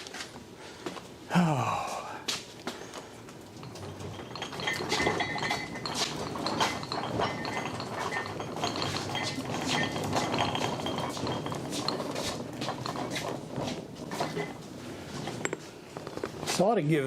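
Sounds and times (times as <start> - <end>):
metal tools clinking and clattering: 2.8 - 16.7.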